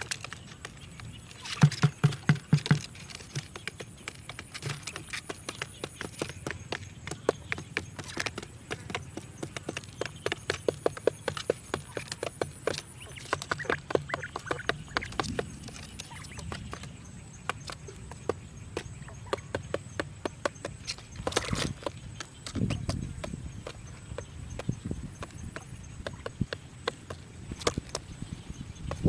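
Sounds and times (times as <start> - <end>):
sharp taps and clicks: 1.5 - 28.1.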